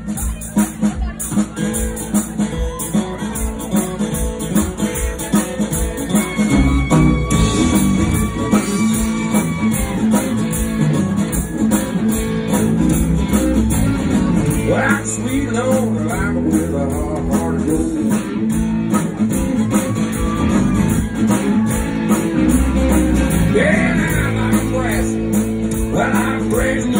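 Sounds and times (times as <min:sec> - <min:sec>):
acoustic and electric guitars: 0:00.0 - 0:26.9
steady drum beat: 0:00.0 - 0:26.9.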